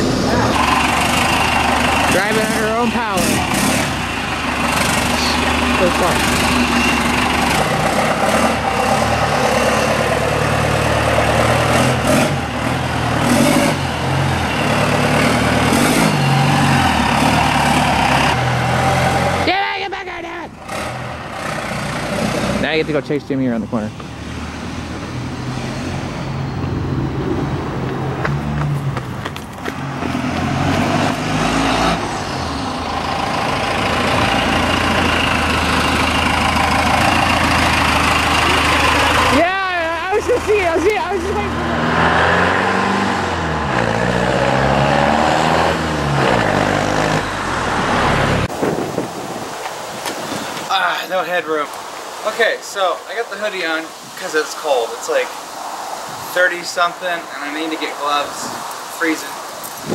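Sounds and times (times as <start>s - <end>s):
diesel pickup engine driving: 0.0s - 59.9s.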